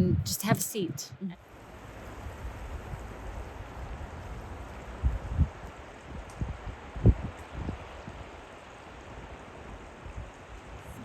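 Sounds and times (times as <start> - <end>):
river flowing: 0.3 - 11.0.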